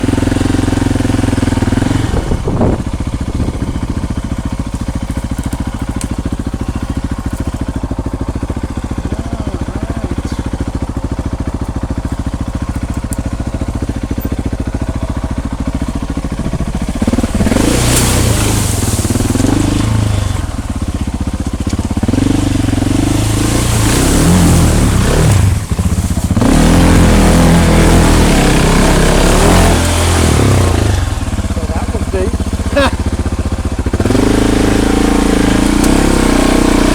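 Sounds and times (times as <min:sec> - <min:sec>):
motorcycle engine revving: 0:00.0 - 0:36.9
water splashing: 0:00.4 - 0:13.9, 0:14.9 - 0:36.9.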